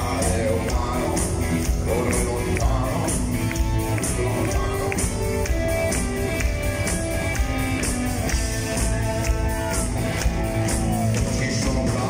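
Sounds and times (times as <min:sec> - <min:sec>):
bass guitar: 0:00.0 - 0:12.0
electric guitar: 0:00.0 - 0:12.0.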